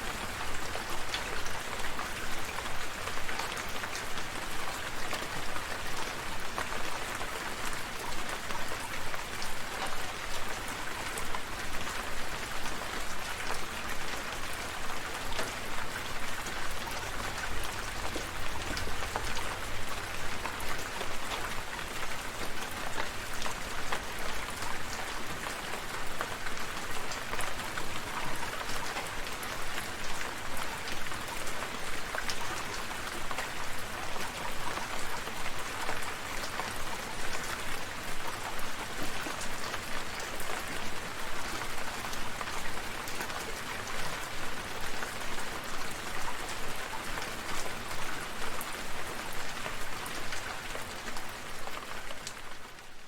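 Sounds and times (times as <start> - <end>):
rain drops pattering: 0.0 - 53.0.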